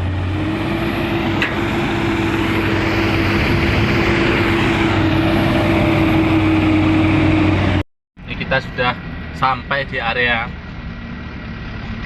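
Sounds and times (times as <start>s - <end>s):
diesel truck engine running: 0.0s - 12.0s
road noise: 0.0s - 12.0s.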